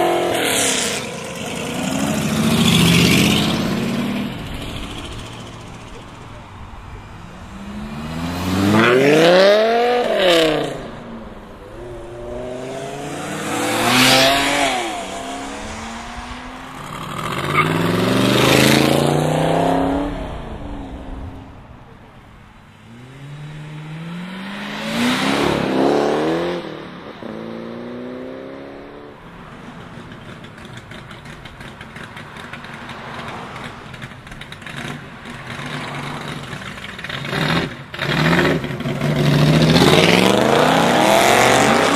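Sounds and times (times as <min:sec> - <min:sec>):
car engines revving hard: 0:00.0 - 0:21.5, 0:22.7 - 0:41.9.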